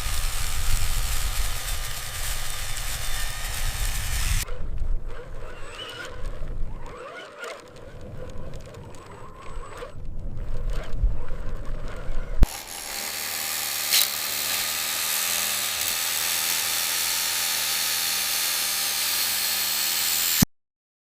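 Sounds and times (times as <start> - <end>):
small electric motor whirring: 0.0 - 20.5.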